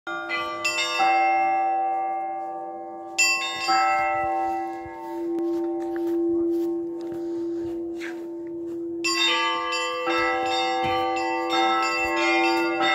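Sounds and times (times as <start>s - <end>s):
church bells ringing: 0.1s - 12.9s.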